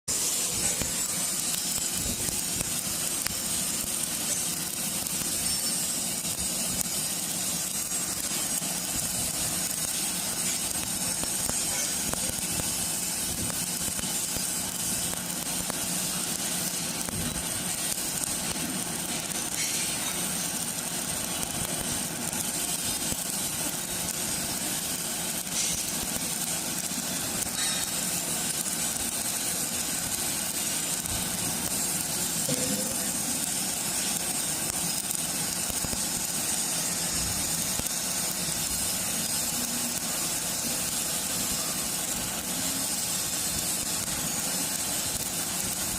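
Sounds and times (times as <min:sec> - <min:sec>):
arc welding hiss: 0:00.1 - 0:45.9.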